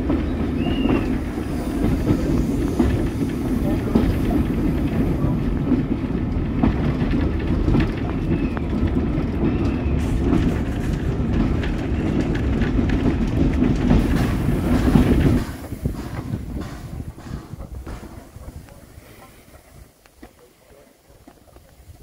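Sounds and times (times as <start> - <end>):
train wheels clattering over rails: 0.0 - 21.9
low train rumble: 0.0 - 22.0.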